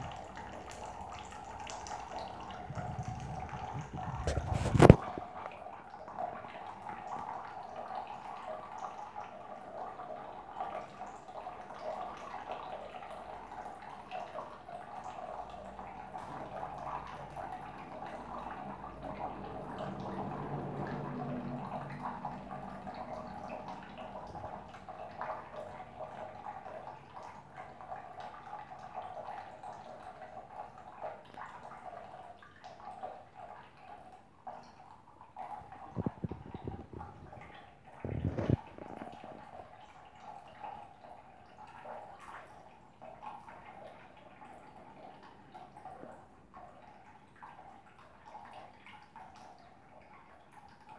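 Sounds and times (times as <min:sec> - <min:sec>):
water trickling into a bowl: 0:00.0 - 0:50.9.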